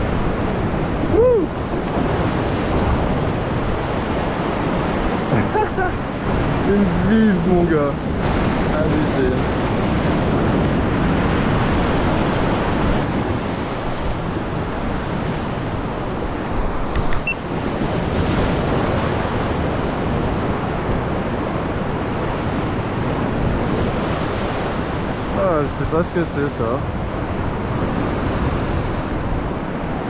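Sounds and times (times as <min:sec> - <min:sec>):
surf breaking over rocks: 0:00.0 - 0:30.0
wind on microphone: 0:00.0 - 0:30.0.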